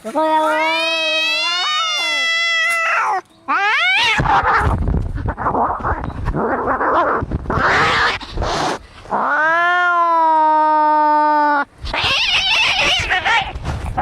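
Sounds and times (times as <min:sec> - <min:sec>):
cats snarling and hissing: 0:00.2 - 0:14.0
cat yowling: 0:00.4 - 0:04.7, 0:06.6 - 0:13.6.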